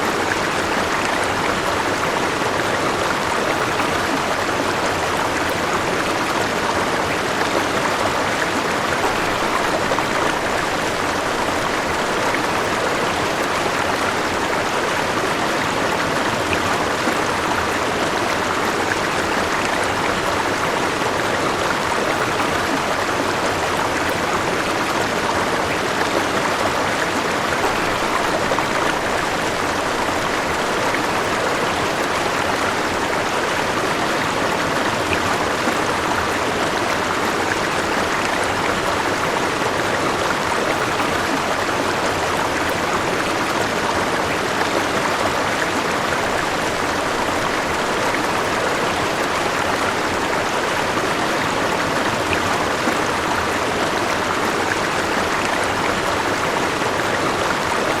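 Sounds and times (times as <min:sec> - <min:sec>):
river water rushing over stones: 0:00.0 - 0:58.0.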